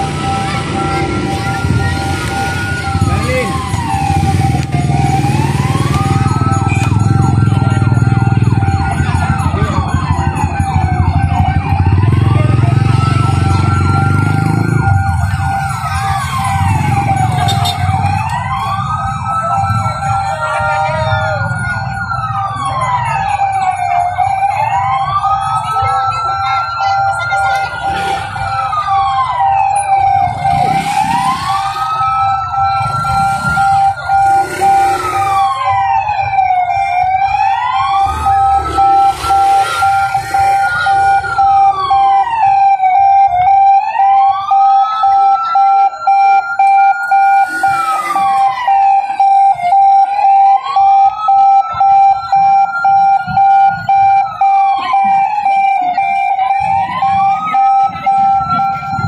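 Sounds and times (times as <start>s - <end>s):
ambulance siren wailing: 0.0s - 59.0s.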